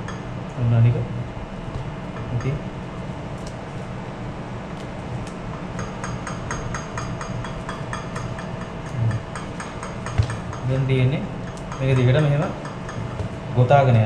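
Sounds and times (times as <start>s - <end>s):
low hum of ship machinery: 0.0s - 14.0s.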